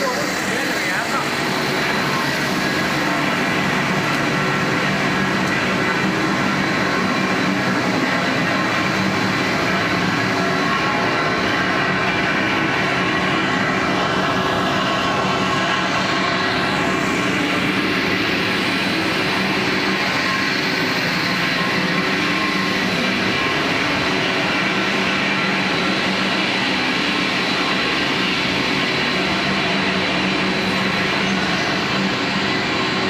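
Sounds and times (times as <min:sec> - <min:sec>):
production line machinery running: 0:00.0 - 0:33.0.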